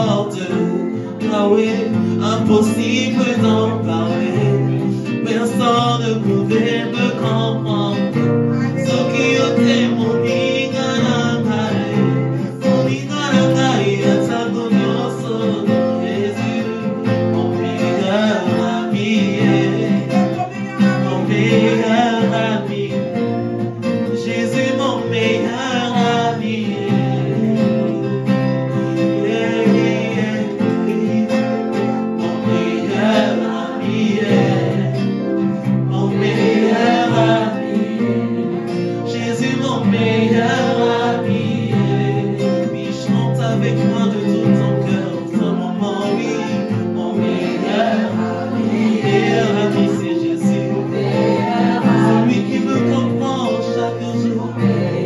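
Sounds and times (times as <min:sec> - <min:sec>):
acoustic guitar strumming: 0:00.0 - 0:55.0
people singing: 0:00.0 - 0:55.0.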